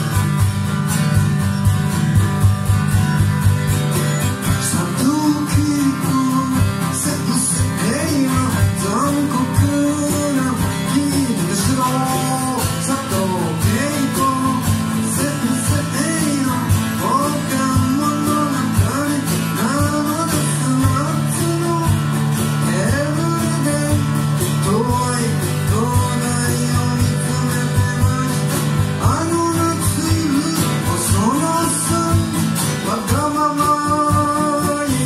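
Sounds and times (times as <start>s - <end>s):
acoustic guitar strumming: 0.0s - 35.0s
drum kit beat: 0.0s - 35.0s
man singing: 4.0s - 35.0s.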